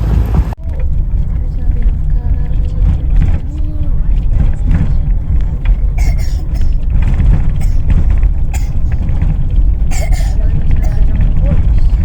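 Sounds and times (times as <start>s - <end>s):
rattles and creaks of vehicle body: 0.0s - 12.0s
vehicle low rumble: 0.0s - 12.0s.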